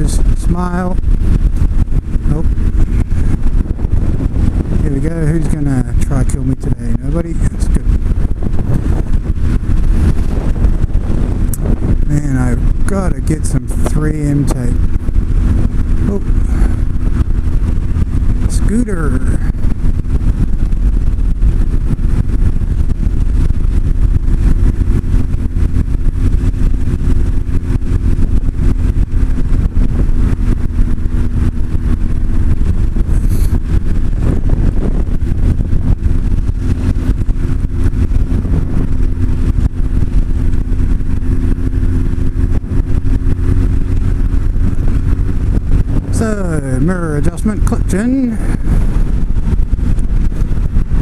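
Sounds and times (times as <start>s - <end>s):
motorcycle engine cruising: 0.0s - 51.0s
wind buffeting microphone: 0.0s - 51.0s.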